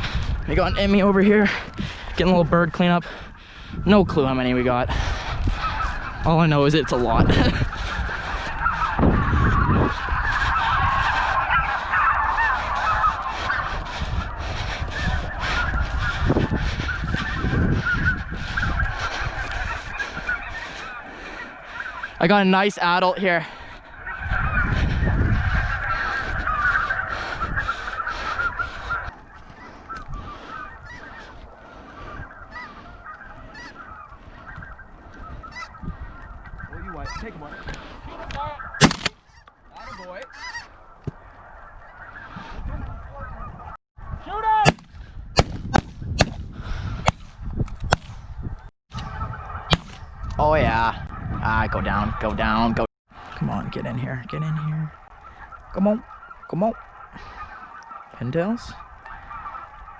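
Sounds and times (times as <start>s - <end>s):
geese honking: 0.0s - 44.8s, 48.3s - 59.9s.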